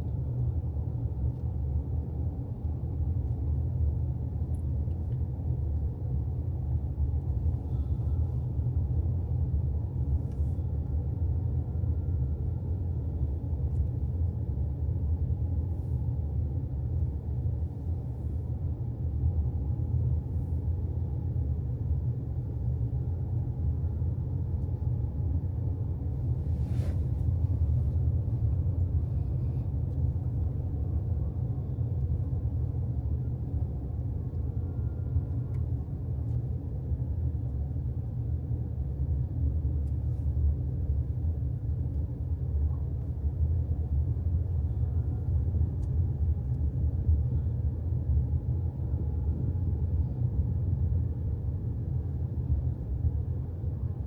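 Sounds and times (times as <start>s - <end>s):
vehicle rumble in motion: 0.0s - 54.0s.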